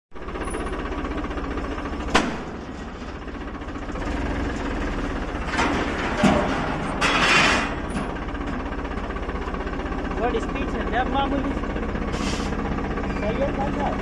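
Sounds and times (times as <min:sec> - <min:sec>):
tractor diesel engine chugging: 0:00.1 - 0:14.0.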